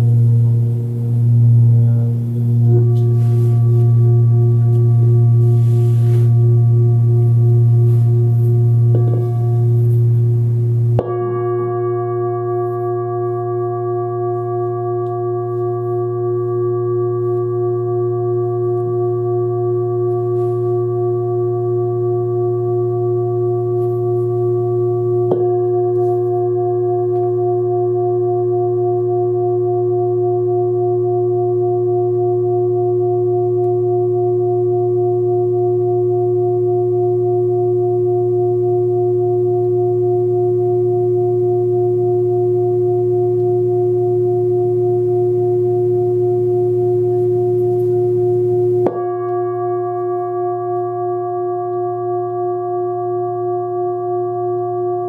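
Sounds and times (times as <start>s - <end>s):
singing bowl ringing hum: 0.0s - 55.0s
singing bowl struck with mallet: 0.0s - 55.0s.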